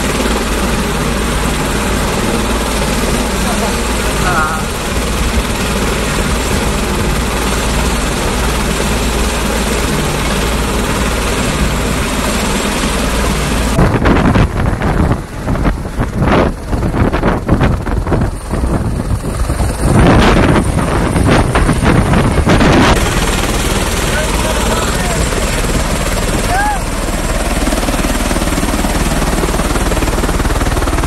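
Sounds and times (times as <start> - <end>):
helicopter engine and rotor noise: 0.0 - 31.0.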